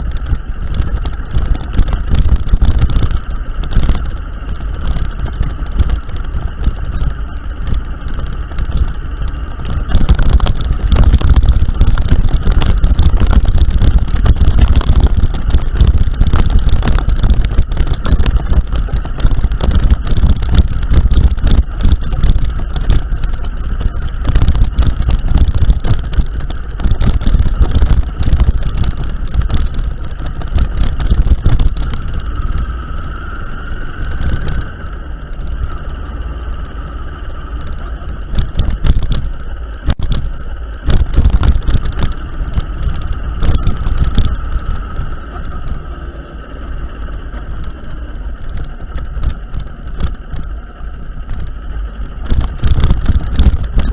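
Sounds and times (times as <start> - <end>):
engine whine: 0.0 - 53.9
vehicle rumbling over rough road: 0.0 - 53.9
wind buffeting microphone: 0.0 - 53.9.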